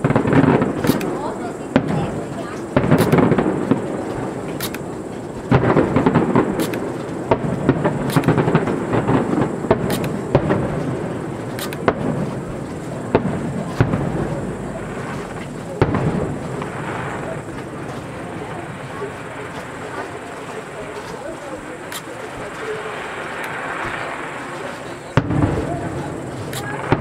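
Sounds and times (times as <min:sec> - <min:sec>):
firework shells bursting: 0:00.0 - 0:27.0
rumble of explosions: 0:00.0 - 0:27.0.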